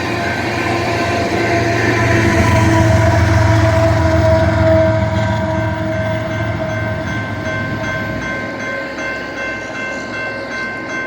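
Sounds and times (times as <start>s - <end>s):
freight train rumble: 0.0s - 11.0s
steady ringing tones: 0.0s - 11.0s.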